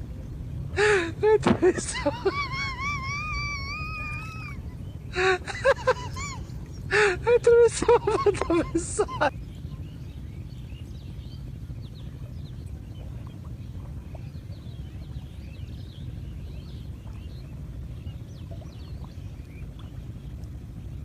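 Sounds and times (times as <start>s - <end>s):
low rumble: 0.0s - 21.0s
small birds chirping: 0.1s - 21.0s.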